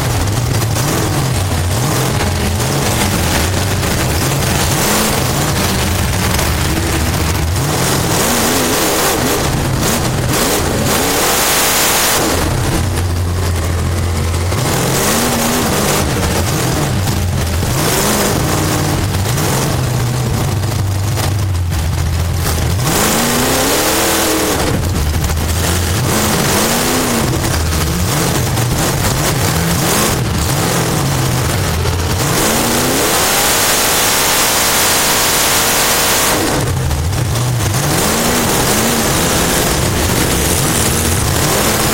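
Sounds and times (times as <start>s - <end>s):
race car engine revving: 0.0s - 41.9s
wind and track noise: 0.0s - 41.9s.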